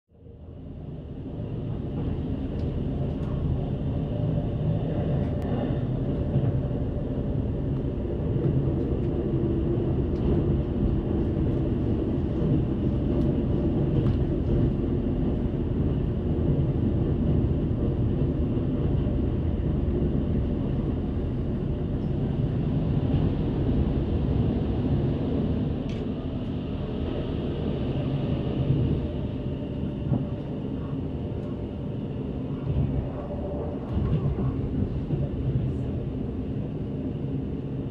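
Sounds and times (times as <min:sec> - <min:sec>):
train wheels rumbling on rail: 0:00.2 - 0:37.9.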